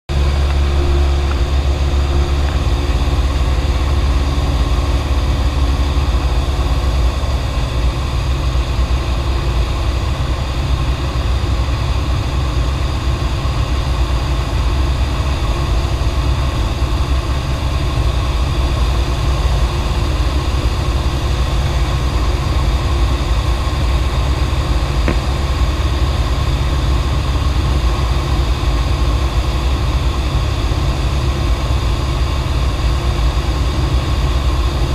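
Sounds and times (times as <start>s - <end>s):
airplane engine and propeller droning: 0.1s - 34.9s.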